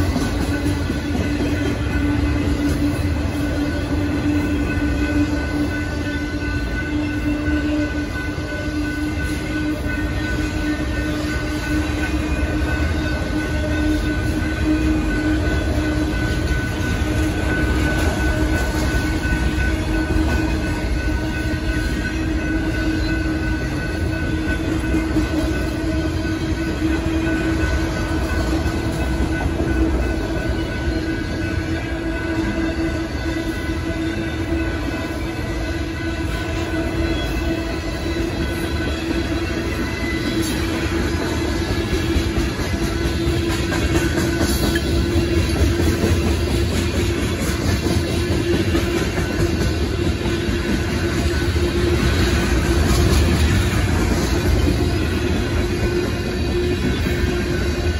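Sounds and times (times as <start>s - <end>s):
freight train rolling past: 0.0s - 57.9s
steady ringing tone: 0.0s - 57.9s.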